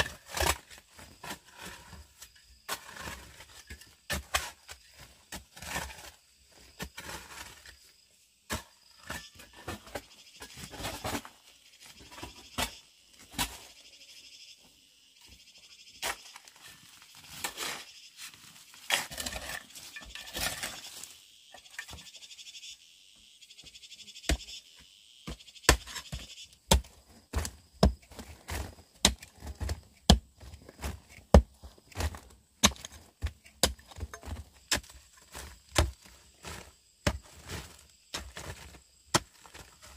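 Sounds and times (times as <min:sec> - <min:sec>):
dirt and stones scraped: 0:00.0 - 0:22.8, 0:24.1 - 0:39.9.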